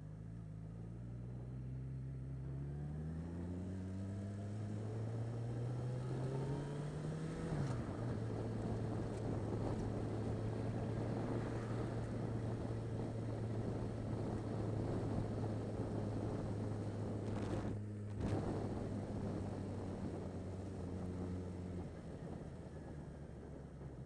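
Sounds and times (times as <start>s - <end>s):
motorcycle engine running: 0.0s - 24.0s
wind noise: 4.0s - 24.0s.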